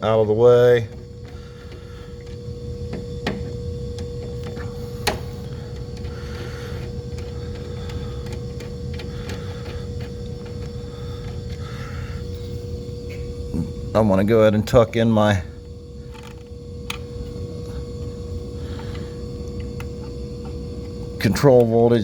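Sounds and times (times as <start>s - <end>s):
compressor machinery hum: 0.0s - 22.0s.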